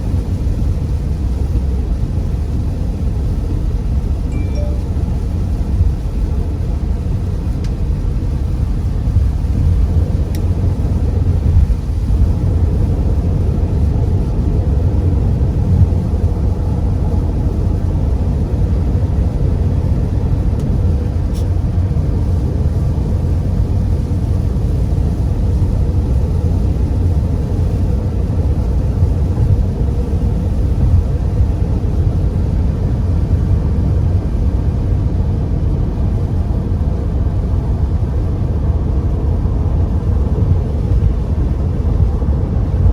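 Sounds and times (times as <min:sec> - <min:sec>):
light hiss of rain: 0:00.0 - 0:42.9
tyres on wet road: 0:05.0 - 0:42.9.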